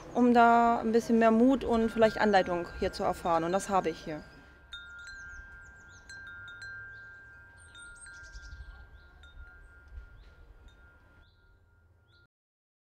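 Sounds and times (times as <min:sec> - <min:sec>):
metal chimes ringing: 0:00.2 - 0:12.3.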